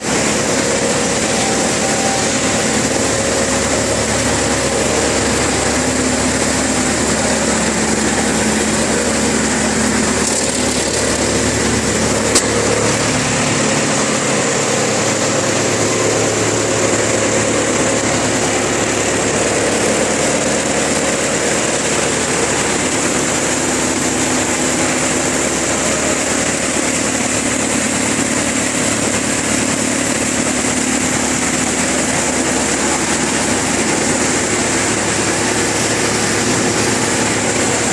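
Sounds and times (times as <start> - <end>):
wood chipper running: 0.0 - 37.9.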